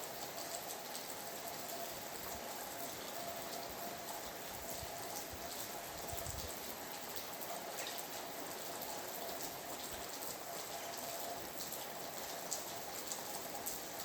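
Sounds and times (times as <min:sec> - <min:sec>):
raindrops ticking on surfaces: 0:00.0 - 0:14.0
steady rain hiss: 0:00.0 - 0:14.0.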